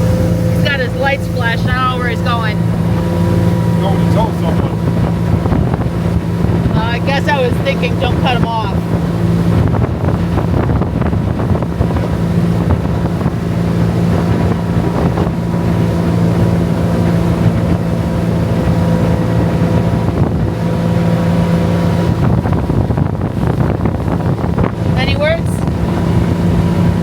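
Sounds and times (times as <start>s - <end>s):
motorboat engine droning: 0.0s - 27.0s
wind noise on microphone: 0.0s - 27.0s.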